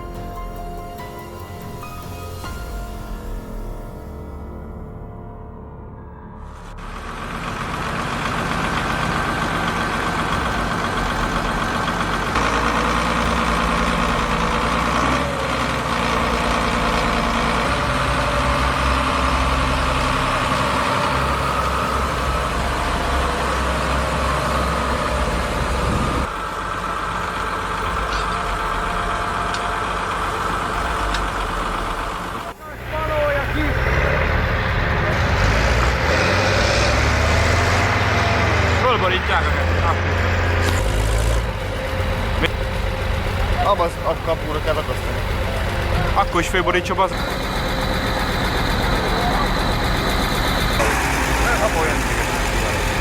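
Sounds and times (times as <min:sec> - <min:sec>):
tractor engine running: 0:06.4 - 0:53.0.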